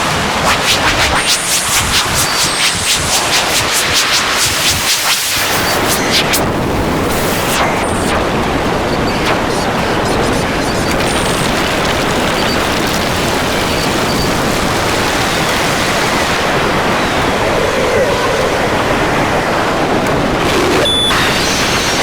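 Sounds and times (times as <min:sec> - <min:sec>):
harsh static-like noise music: 0:00.0 - 0:22.0.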